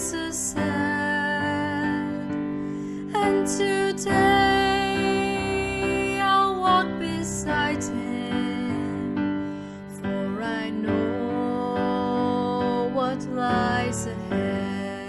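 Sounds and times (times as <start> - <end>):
slow music with held chords: 0.0 - 15.0.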